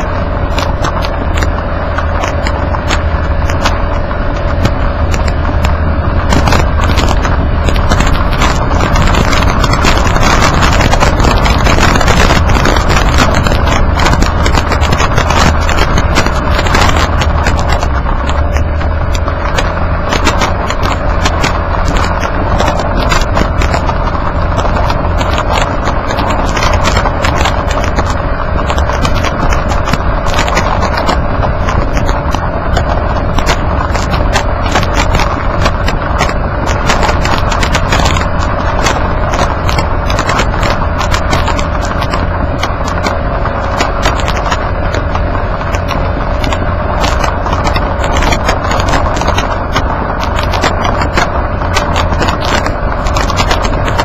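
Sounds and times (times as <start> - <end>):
steady hum: 0.0 - 54.0
stones clicking against underside: 0.0 - 54.0
tyre and underbody rumble: 0.0 - 54.0.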